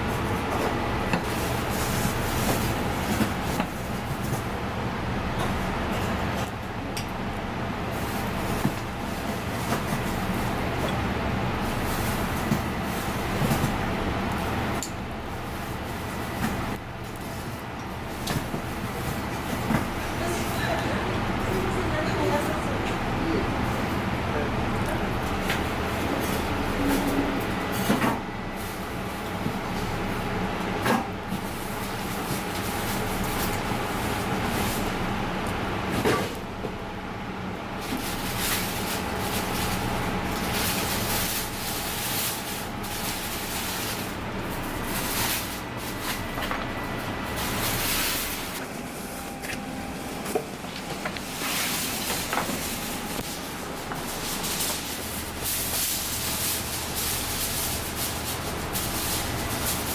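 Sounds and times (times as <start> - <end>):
kitchen machinery hum and hiss: 0.0 - 59.9.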